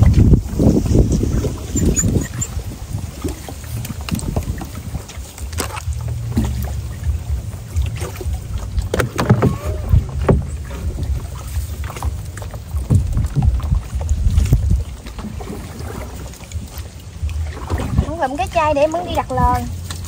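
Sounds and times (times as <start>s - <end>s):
low rumble: 0.0s - 20.0s
water knocking and splashing on hull: 0.0s - 20.0s.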